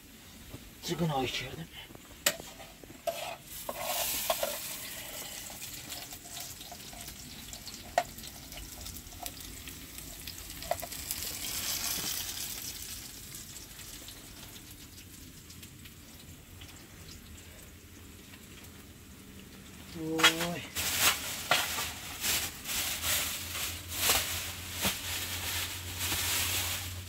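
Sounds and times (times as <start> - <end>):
food sizzling in a pan: 2.2 - 27.0.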